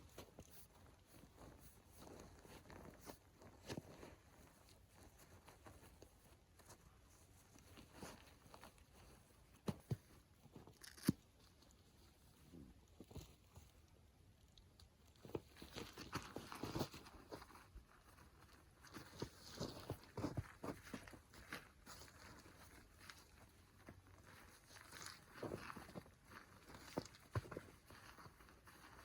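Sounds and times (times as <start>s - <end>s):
crunching rustles: 0.0s - 29.0s.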